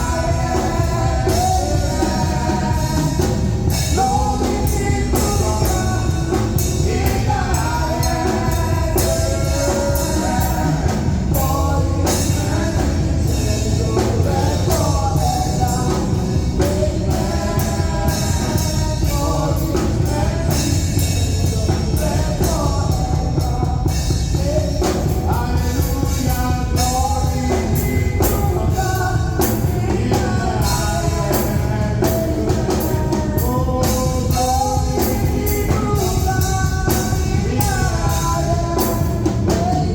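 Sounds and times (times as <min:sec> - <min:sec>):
band with drum kit: 0:00.0 - 0:39.9
person singing: 0:00.0 - 0:39.9.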